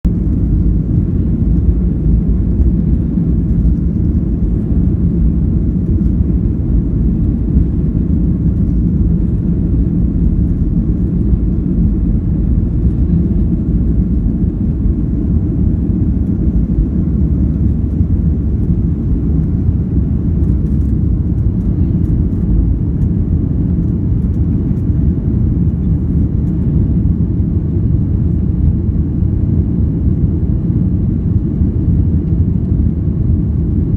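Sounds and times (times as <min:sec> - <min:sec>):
jet engines rumbling in cabin: 0:00.0 - 0:33.9.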